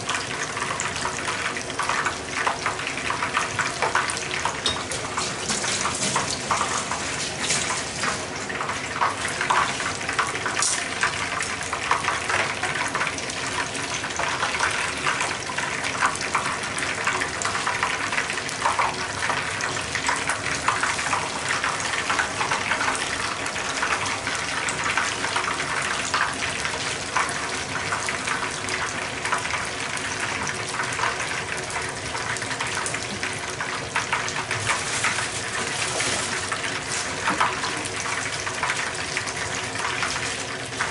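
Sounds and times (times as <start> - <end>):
oil sizzling while deep-frying: 0.0 - 40.9.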